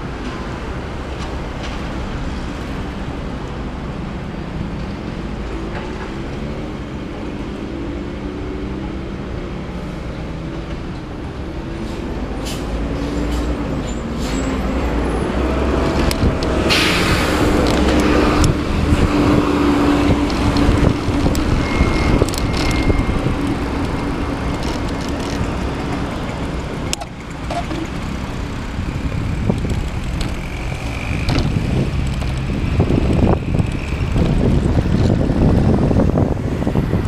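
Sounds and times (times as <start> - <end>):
cars and truck passing: 0.0 - 37.0.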